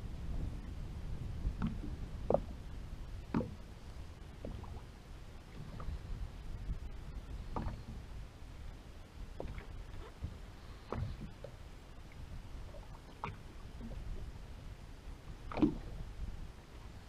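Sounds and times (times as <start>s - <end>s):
water slapping boat hull: 0.0s - 17.0s
wind and sea rumble: 0.0s - 17.0s.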